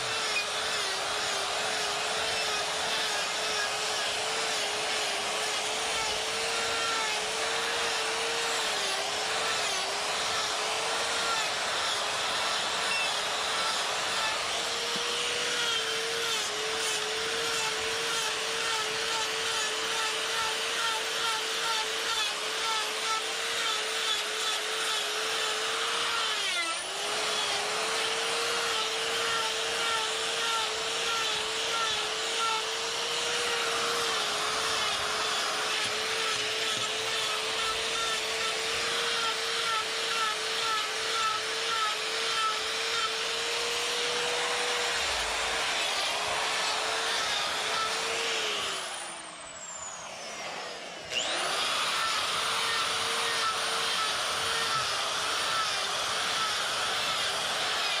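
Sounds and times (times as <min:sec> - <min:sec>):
die grinder grinding wood: 0:00.0 - 0:58.0.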